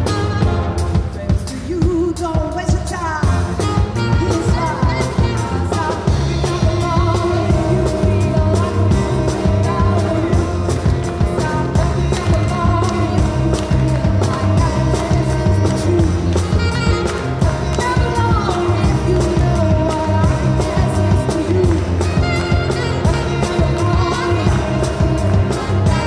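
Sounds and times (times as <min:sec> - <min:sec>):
electric bass line: 0:00.0 - 0:01.3, 0:03.2 - 0:26.0
steady drum beat: 0:00.0 - 0:26.0
woman singing into microphone: 0:01.2 - 0:03.4, 0:04.1 - 0:26.0.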